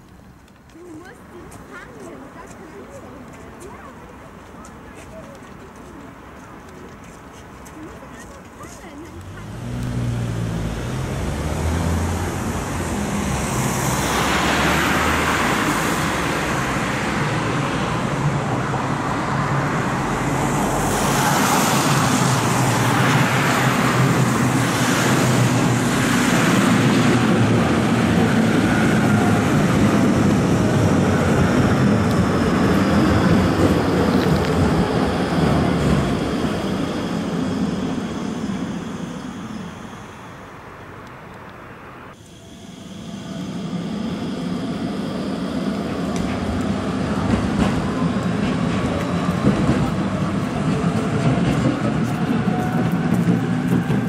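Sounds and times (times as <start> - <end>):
tram rumbling by: 0.7 - 54.0
cars passing on wet road: 8.4 - 54.0.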